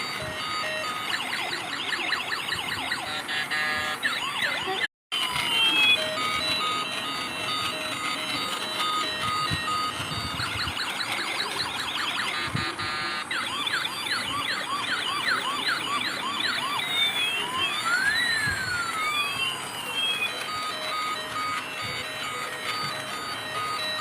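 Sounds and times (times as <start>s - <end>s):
police siren: 0.0s - 24.0s.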